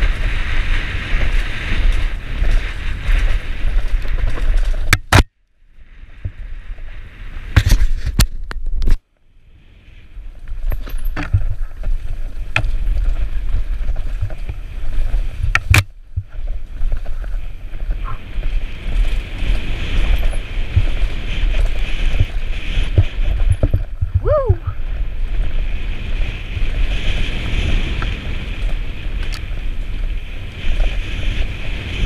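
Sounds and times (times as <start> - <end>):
wind on microphone: 0.0 - 5.2, 5.8 - 32.0
bike knocks and rattles: 0.0 - 5.3, 10.4 - 32.0
bike tyres over dirt: 0.0 - 32.0.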